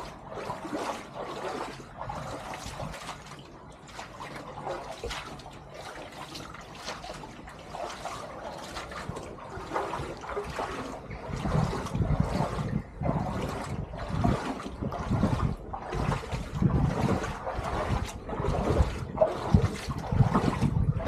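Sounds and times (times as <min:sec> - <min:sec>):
brook water trickling: 0:00.0 - 0:21.0
splashes of wading: 0:00.0 - 0:21.0.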